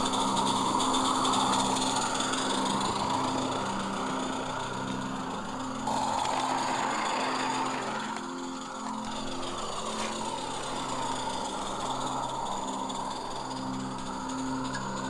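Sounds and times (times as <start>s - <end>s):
steam locomotive running: 0.0s - 15.0s.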